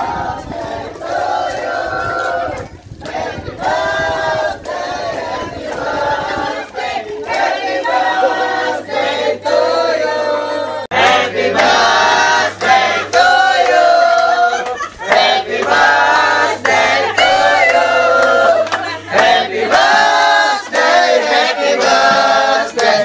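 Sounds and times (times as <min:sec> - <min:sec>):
men singing together: 0:00.0 - 0:23.0
people clapping along: 0:00.0 - 0:23.0.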